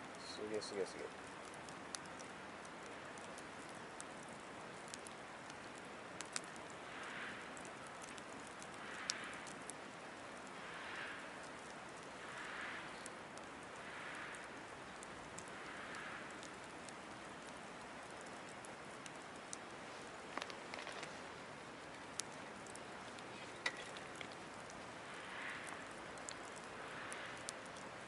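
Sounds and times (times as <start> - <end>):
soft rushing hiss: 0.0 - 28.0
wood fire crackling and popping: 0.0 - 28.0.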